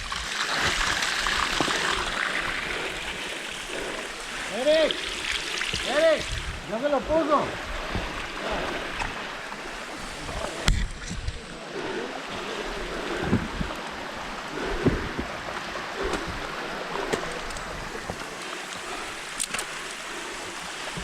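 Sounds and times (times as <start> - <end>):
stream and waterfall rushing: 0.0 - 10.9, 12.0 - 21.0.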